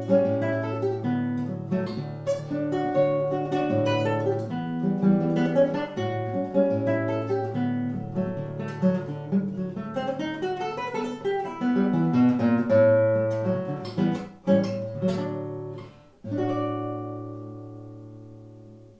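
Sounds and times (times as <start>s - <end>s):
acoustic guitar melody: 0.0s - 18.9s.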